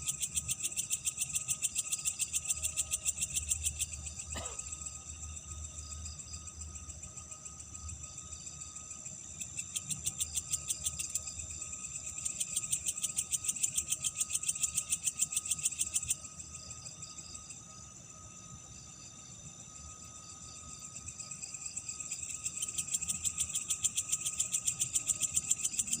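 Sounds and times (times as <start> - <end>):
crickets trilling: 0.0 - 26.0
rapid pulsed insect chirping: 0.0 - 26.0.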